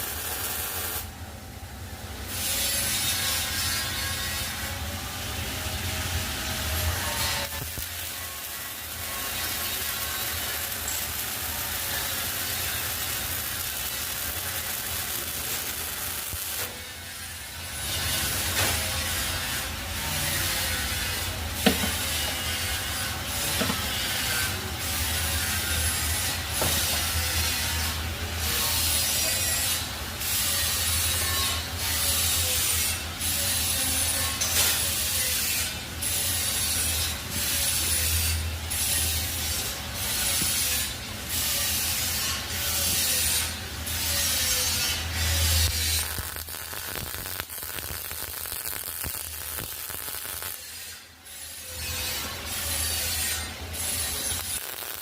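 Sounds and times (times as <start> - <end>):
arc welding crackle: 0.0 - 1.2, 2.0 - 55.0.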